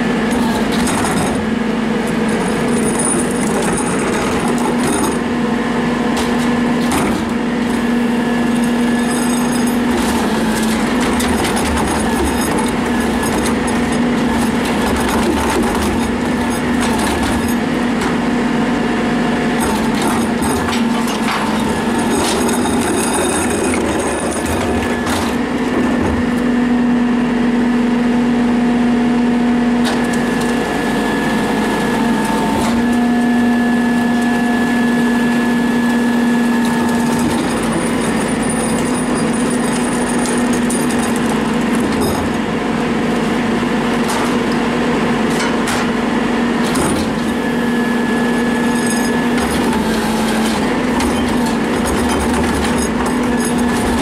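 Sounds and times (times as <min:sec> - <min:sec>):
truck hydraulics humming and whining: 0:00.0 - 0:54.0.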